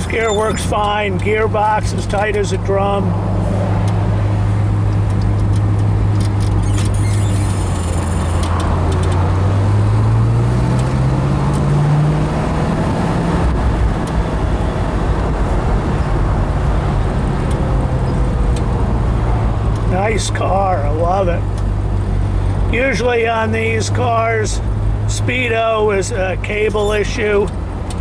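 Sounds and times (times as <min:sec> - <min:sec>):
car engine under load: 0:00.0 - 0:28.0
road noise: 0:00.0 - 0:28.0.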